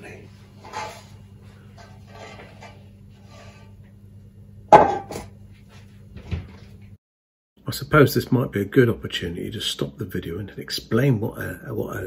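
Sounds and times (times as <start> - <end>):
low electrical hum: 0.0 - 7.0, 7.6 - 12.0.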